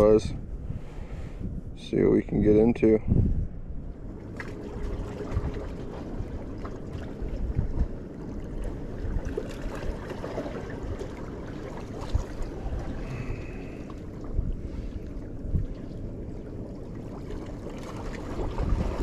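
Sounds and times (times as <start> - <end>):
wind buffeting microphone: 0.0 - 16.4, 18.2 - 19.0.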